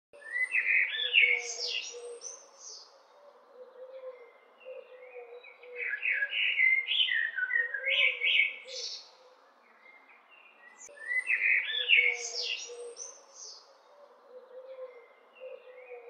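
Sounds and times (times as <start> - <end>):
blackbird singing: 0.2 - 16.0.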